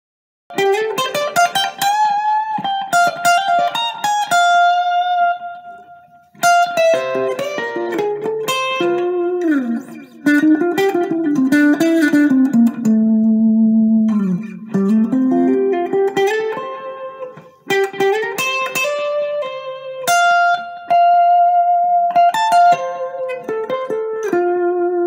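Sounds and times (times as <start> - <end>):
electric guitar playing: 0.5 - 25.0.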